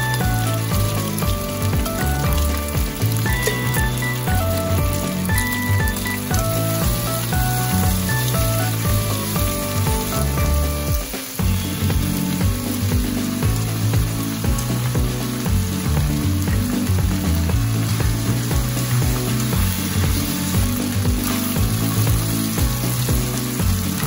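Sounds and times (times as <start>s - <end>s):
background music with low notes: 0.0s - 24.0s
food sizzling in a frying pan: 0.0s - 24.0s.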